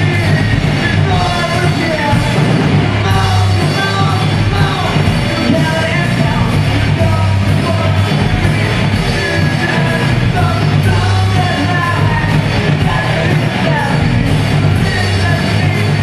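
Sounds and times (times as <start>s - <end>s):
electric guitars: 0.0s - 16.0s
man singing into a microphone: 0.0s - 16.0s.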